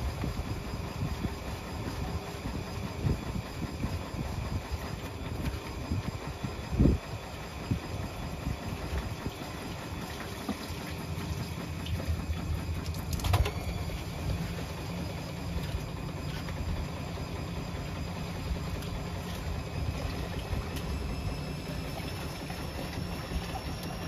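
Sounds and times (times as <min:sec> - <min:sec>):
washing machine rumble and hum: 0:00.0 - 0:24.0.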